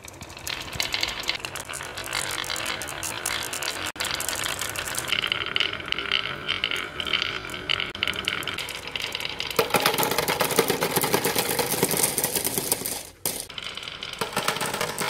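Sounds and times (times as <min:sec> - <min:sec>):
marbles rattling down marble run: 0:00.0 - 0:15.0.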